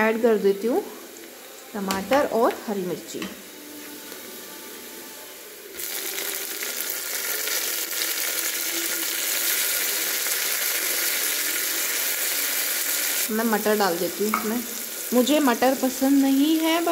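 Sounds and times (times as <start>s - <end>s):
food sizzling in hot oil: 0.0s - 16.9s.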